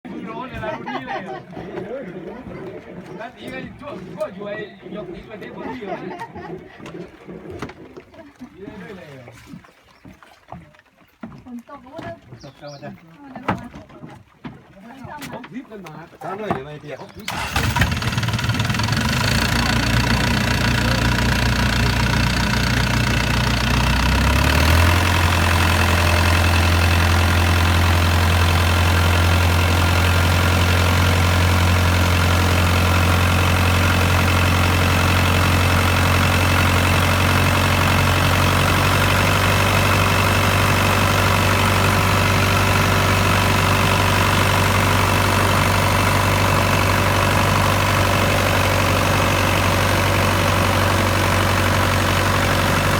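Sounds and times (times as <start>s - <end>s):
boat engine running: 0.1s - 52.9s.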